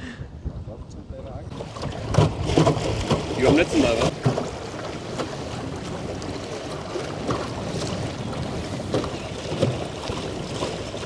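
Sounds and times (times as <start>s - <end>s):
faint knocks or splashes: 1.5s - 11.0s.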